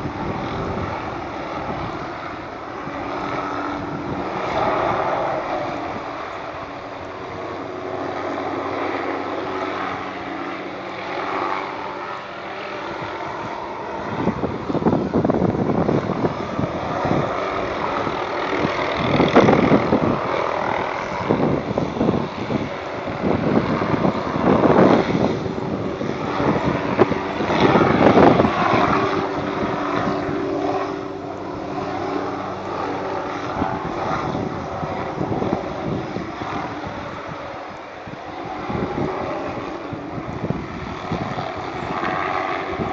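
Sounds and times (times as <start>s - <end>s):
helicopter rotor and engine: 0.0s - 42.9s.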